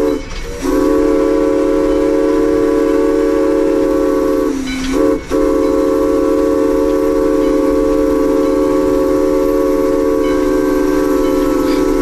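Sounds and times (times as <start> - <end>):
steam locomotive whistle blast: 0.0 - 12.0.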